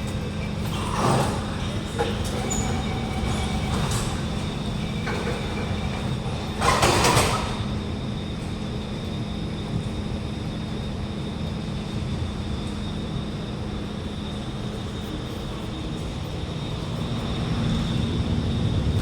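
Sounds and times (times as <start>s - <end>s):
metro train humming: 0.0s - 19.0s.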